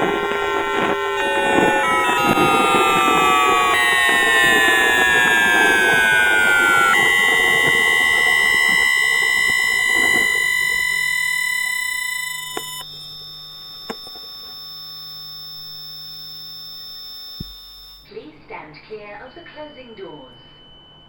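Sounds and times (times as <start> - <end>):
falling inverter tones: 0.0 - 18.1
sharp clicks: 0.0 - 18.1
steady high whines: 0.0 - 18.1
faint hum: 0.0 - 21.0.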